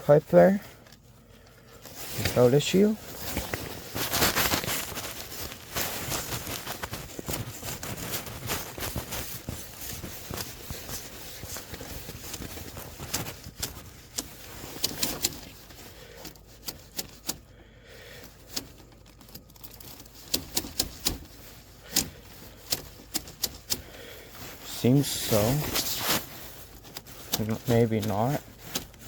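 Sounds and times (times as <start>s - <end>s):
soft rustle of handling: 0.0s - 29.0s
wire tapping inside a plastic pipe: 3.1s - 17.5s, 18.2s - 24.6s, 25.6s - 29.0s.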